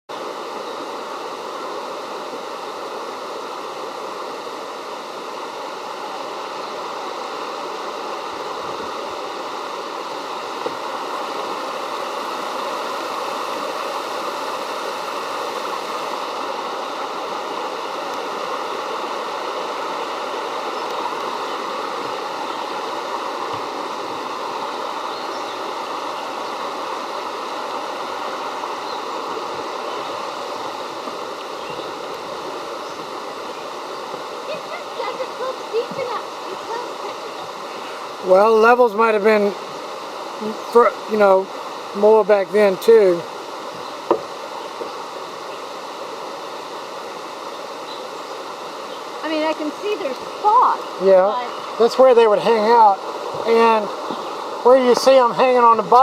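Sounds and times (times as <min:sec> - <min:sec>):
stream rushing over rocks: 0:00.1 - 0:56.0.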